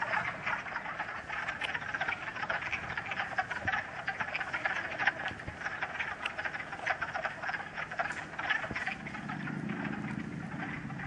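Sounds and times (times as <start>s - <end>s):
frogs chorus clucking: 0.0s - 11.0s.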